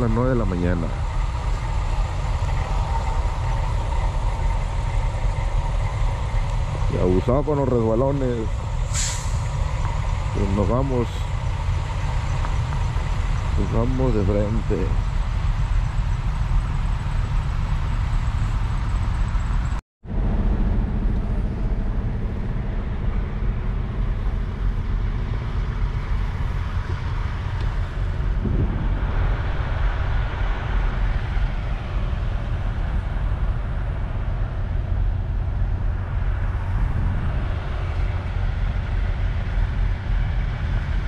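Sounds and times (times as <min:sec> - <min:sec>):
diesel truck engine rumbling: 0:00.0 - 0:41.0
road noise: 0:00.0 - 0:41.0.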